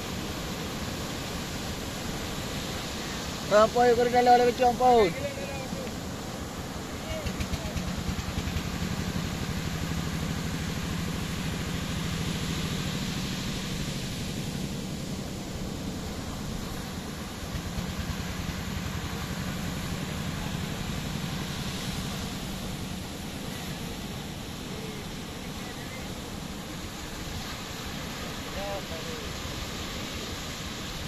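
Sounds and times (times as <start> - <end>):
boat engine drone: 0.0 - 31.0
wind and water hiss: 0.0 - 31.0.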